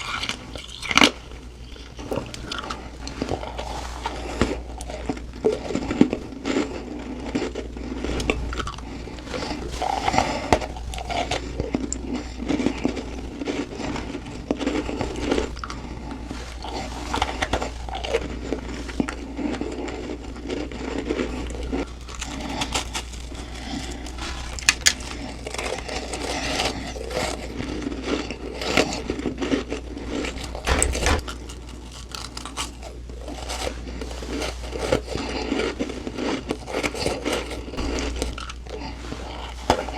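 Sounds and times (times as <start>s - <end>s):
person chewing crunchy frost: 0.0s - 39.9s.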